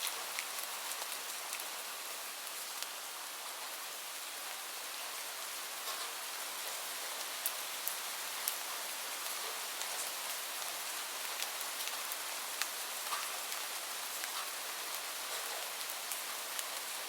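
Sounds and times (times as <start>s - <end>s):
raindrops ticking close by: 0.0s - 3.0s, 5.8s - 17.0s
steady rain hiss: 0.0s - 17.0s.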